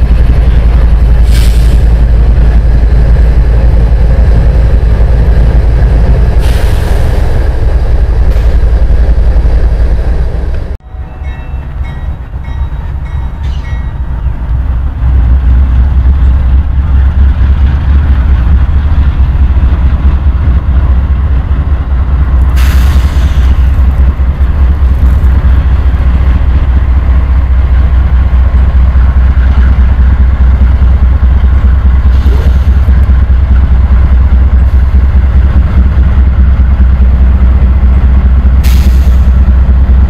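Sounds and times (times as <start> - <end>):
diesel locomotive engine rumble: 0.0 - 40.0
passing train rumble: 0.0 - 40.0.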